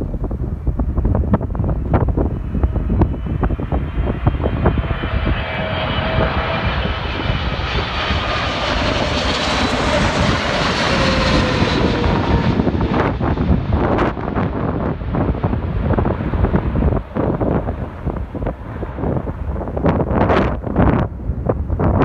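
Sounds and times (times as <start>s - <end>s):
wind buffeting microphone: 0.0s - 22.0s
jet roar with whining tones: 0.2s - 22.0s.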